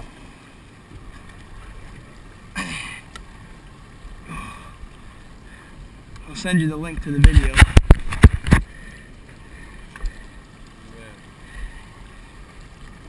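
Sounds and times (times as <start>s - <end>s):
wind and water noise: 0.0s - 13.0s.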